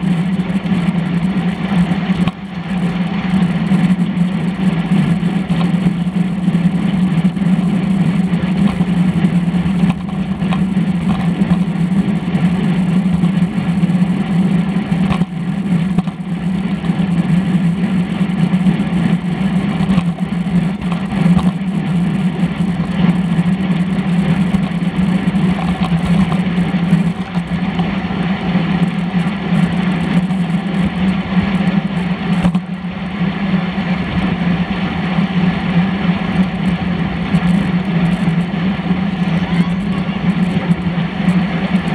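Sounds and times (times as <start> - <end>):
low hum: 0.0 - 41.9
wind and road noise: 0.0 - 41.9.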